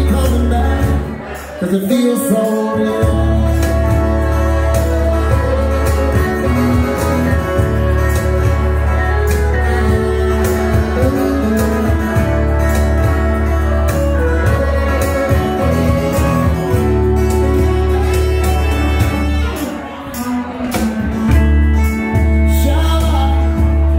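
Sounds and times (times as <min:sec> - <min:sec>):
acoustic guitar: 0:00.0 - 0:23.9
electric guitar: 0:00.0 - 0:23.9
cajon beat: 0:02.7 - 0:23.9
fiddle: 0:02.8 - 0:22.4.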